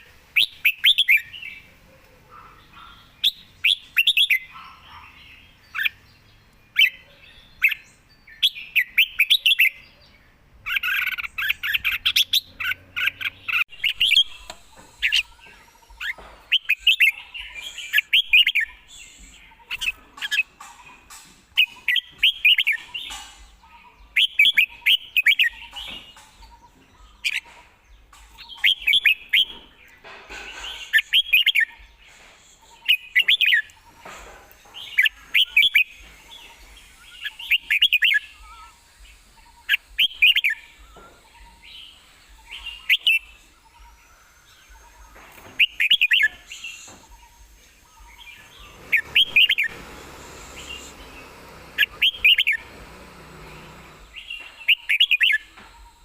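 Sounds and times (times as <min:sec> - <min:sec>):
bird chirping song: 0:00.0 - 0:56.0.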